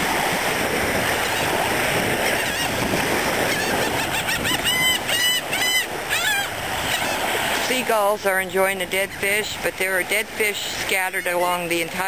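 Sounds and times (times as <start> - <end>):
small waves on shore: 0.0 - 12.0
seagulls calling: 0.2 - 12.0.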